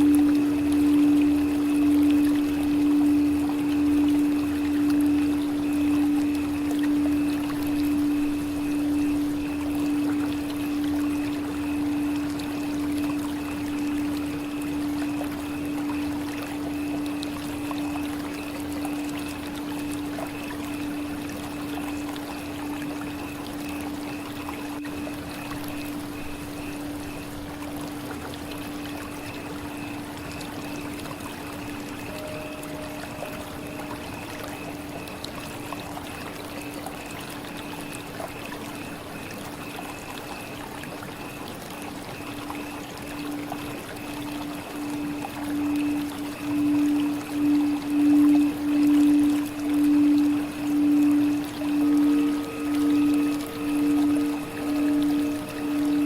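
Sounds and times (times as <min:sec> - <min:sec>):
steady low hum: 0:00.0 - 0:37.4, 0:42.2 - 0:56.0
trickling water: 0:00.0 - 0:56.0.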